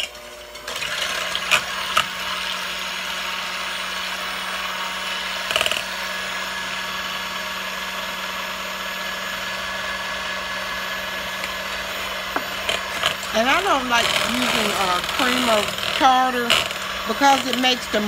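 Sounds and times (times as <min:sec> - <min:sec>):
electric mixer running: 0:00.0 - 0:18.0.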